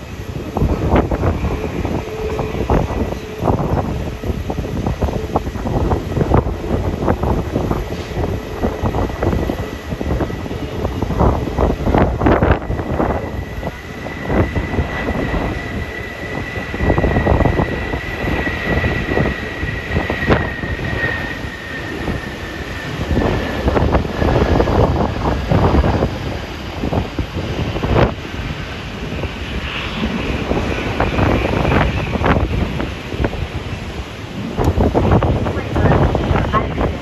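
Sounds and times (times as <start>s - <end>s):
jet engines whining: 0.0s - 37.0s
wind buffeting microphone: 0.0s - 37.0s.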